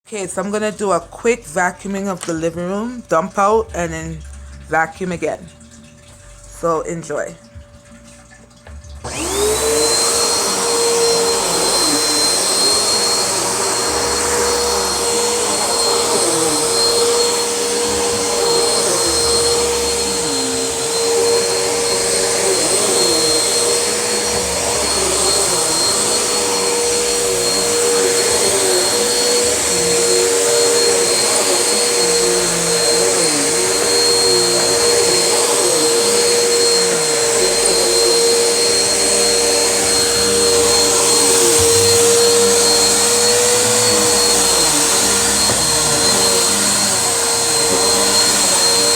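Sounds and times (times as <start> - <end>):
vacuum cleaner motor whine: 9.0 - 48.9.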